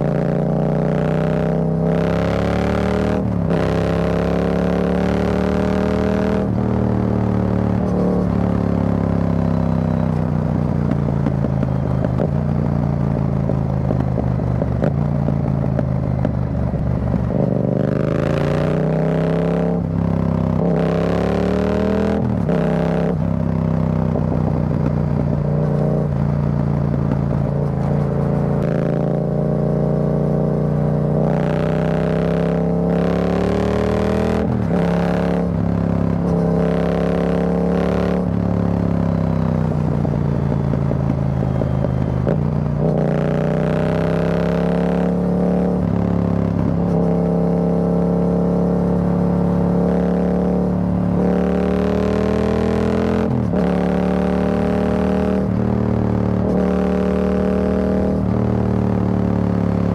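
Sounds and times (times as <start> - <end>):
motorcycle engine at road speed: 0.0 - 59.9.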